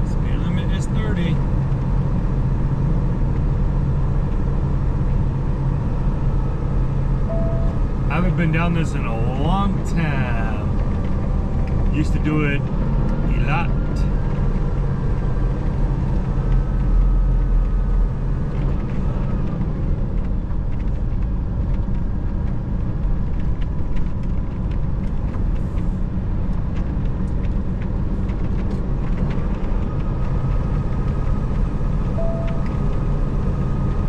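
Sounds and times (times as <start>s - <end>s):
diesel engine and road noise: 0.0s - 34.0s.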